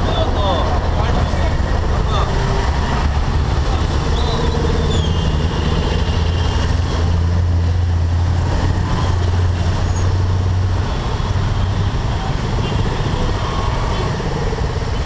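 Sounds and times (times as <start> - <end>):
surrounding traffic engines: 0.0 - 15.0.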